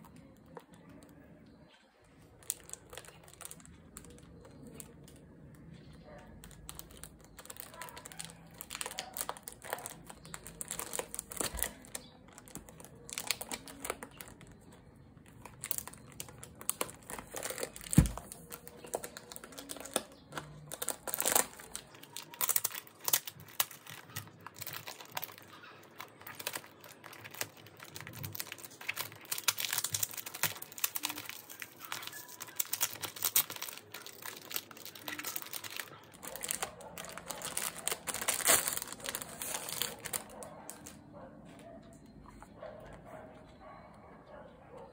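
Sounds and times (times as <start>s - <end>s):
plastic packaging crinkling: 0.0s - 43.2s.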